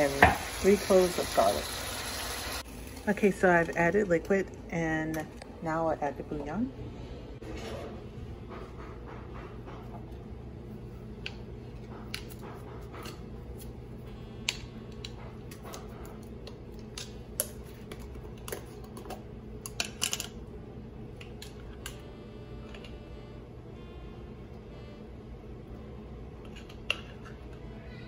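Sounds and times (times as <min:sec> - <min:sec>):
steady low hum: 0:02.6 - 0:28.0.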